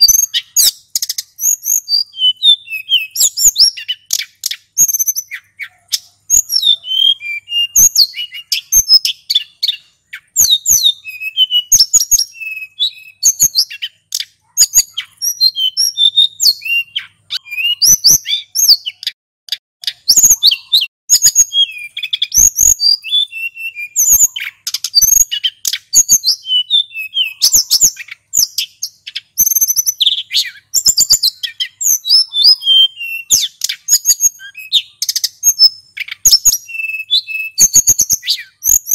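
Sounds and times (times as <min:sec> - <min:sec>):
bird singing rapid chirps and trills: 0:00.0 - 0:38.9.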